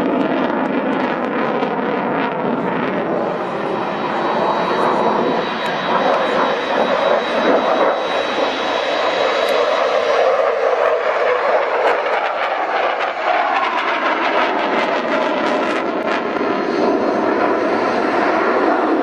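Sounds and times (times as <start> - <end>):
jet engines roaring in flypast: 0.0 - 19.0.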